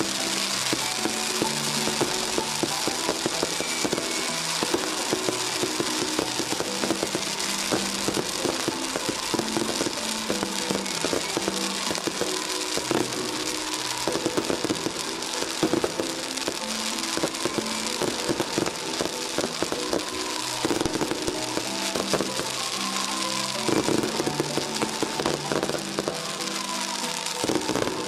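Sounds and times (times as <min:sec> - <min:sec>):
fireworks crackling and popping: 0:00.0 - 0:28.0
melody of long held notes: 0:00.0 - 0:28.0.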